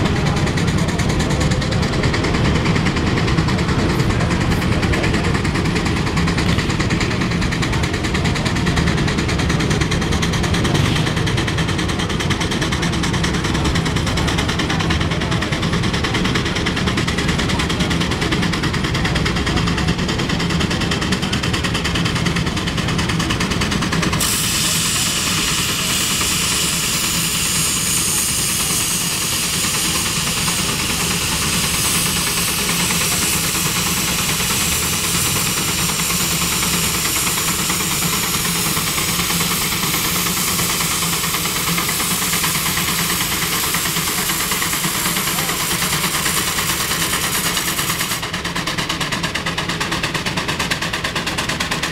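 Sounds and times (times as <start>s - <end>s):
steam engine hiss: 0.0s - 51.9s.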